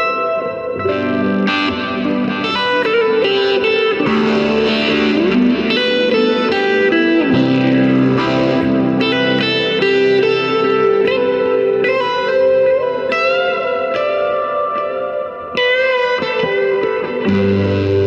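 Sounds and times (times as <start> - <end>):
overdriven electric guitar notes: 0.0 - 18.0.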